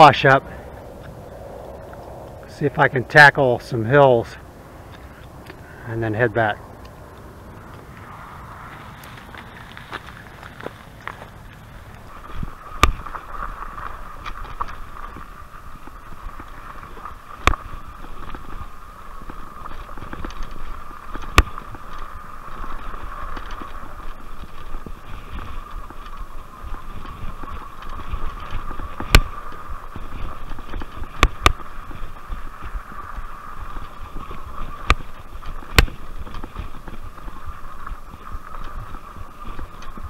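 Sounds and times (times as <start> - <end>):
tyres rumbling on dirt trail: 0.0 - 40.0
bike jolting over bumps: 7.3 - 40.0.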